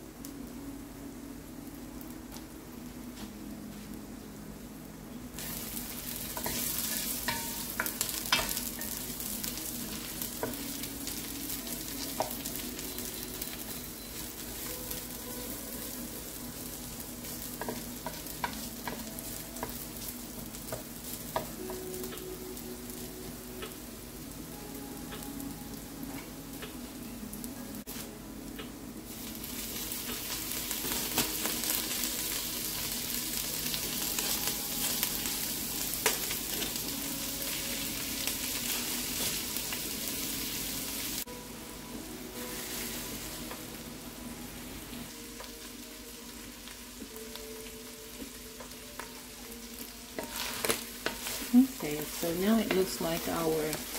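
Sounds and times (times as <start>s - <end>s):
onions sizzling in butter: 5.4s - 53.9s.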